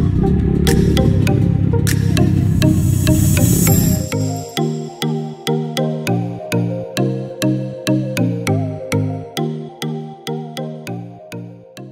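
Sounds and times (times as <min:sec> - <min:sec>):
background music: 0:00.0 - 0:11.9.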